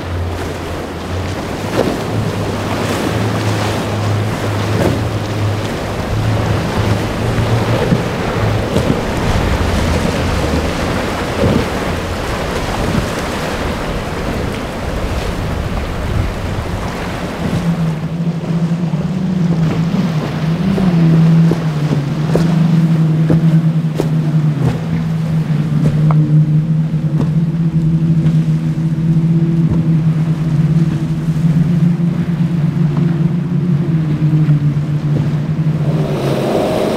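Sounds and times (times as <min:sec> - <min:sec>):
boat engine drone: 0:00.0 - 0:36.9
boat hitting choppy waves: 0:00.0 - 0:36.9
wind noise on microphone: 0:00.0 - 0:36.9.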